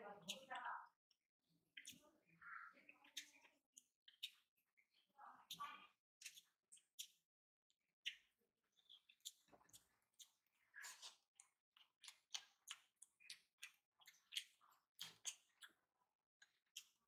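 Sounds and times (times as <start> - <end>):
fingers squishing rice: 0.0 - 17.0
wet mouth clicks and smacks: 1.7 - 7.3, 8.0 - 17.0.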